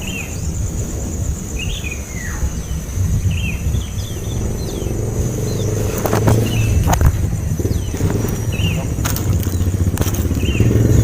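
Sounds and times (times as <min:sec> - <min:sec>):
low background rumble: 0:00.0 - 0:11.0
baby birds cheeping: 0:01.5 - 0:11.0.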